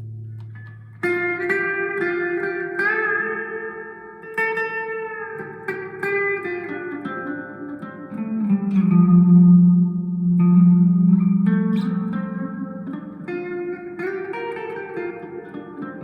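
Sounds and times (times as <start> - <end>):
clean electric guitar with reverb: 0.0 - 16.0.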